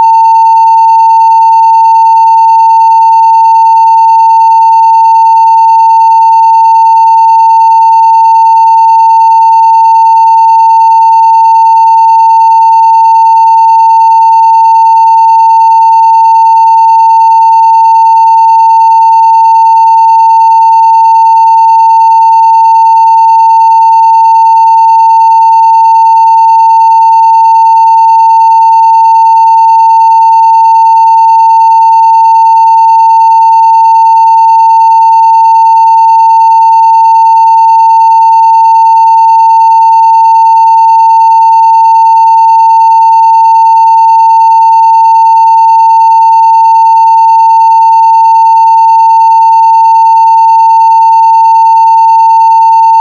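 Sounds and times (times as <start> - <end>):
loud sine-wave test tone: 0.0 - 53.0.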